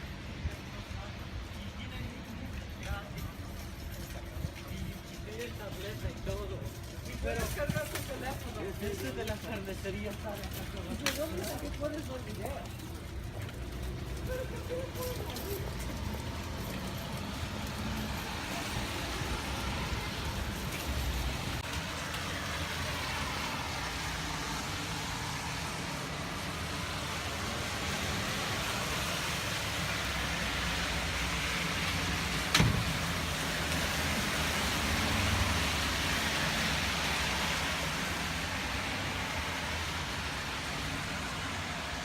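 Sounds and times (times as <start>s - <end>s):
road traffic hiss and rumble: 0.0s - 42.0s.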